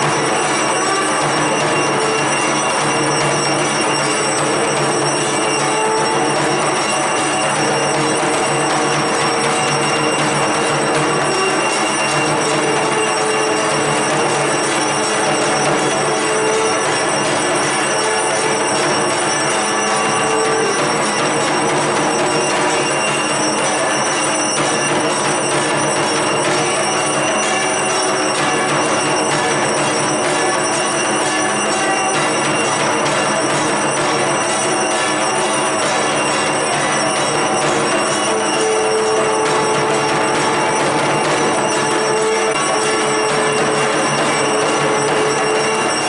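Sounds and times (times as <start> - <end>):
bells ringing and clanging: 0.0 - 46.0.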